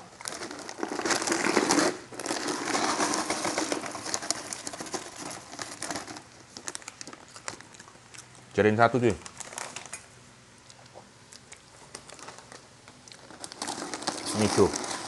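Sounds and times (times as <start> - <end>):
plastic snack bag crinkling: 0.0 - 10.2, 11.4 - 15.0.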